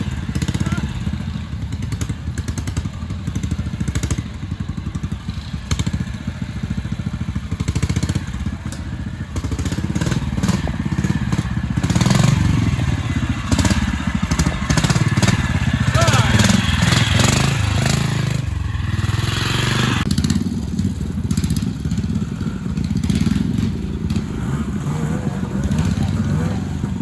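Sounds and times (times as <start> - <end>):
motorcycle engine at low revs: 0.0 - 27.0.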